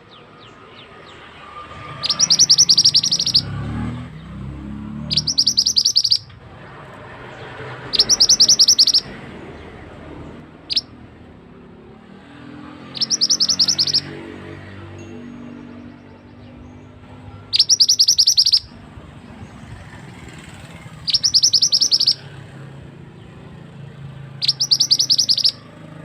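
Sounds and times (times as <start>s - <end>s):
bird chirp: 0.0s - 11.1s, 12.5s - 26.0s
songbird singing rapid high notes: 0.0s - 11.3s, 12.7s - 26.0s.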